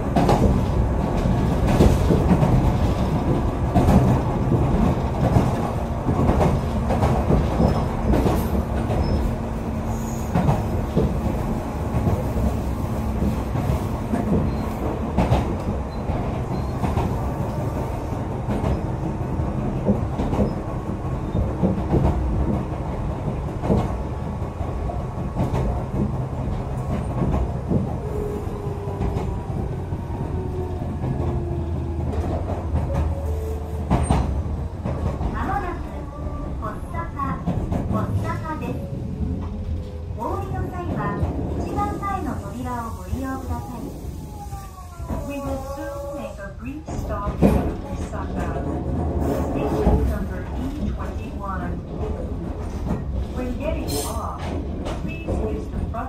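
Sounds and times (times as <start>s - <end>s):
train motor hum and rumble: 0.0s - 56.0s.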